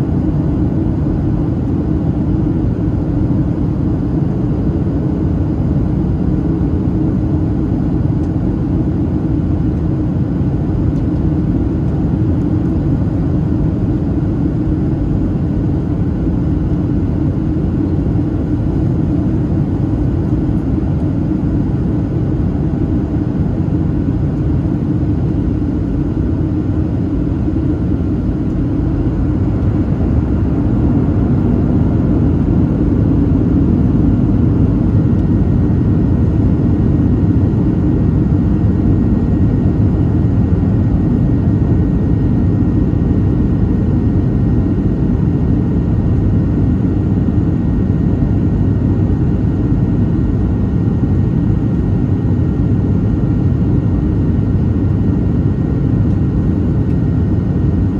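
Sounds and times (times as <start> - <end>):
faint steady whine: 0.0 - 57.9
jet engine rumble: 0.0 - 57.9.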